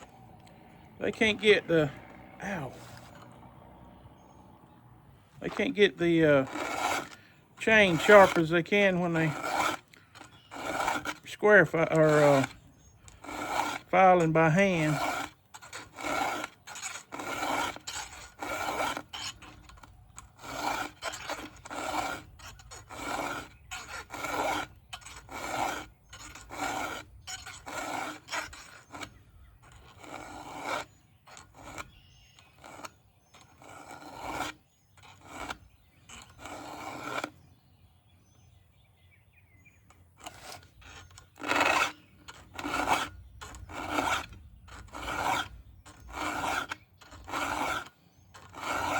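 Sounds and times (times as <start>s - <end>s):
file rasping on saw chain: 0.0s - 3.4s, 5.4s - 37.5s, 39.8s - 48.9s.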